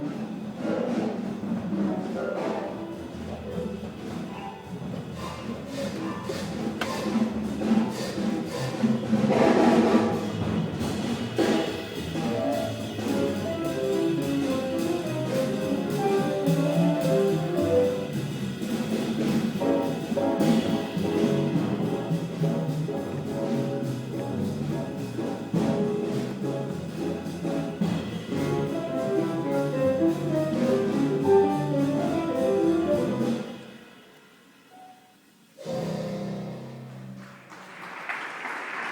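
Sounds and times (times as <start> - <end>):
drums: 0.0 - 38.9
piano: 0.0 - 38.9
double bass: 2.4 - 33.6, 35.6 - 37.2.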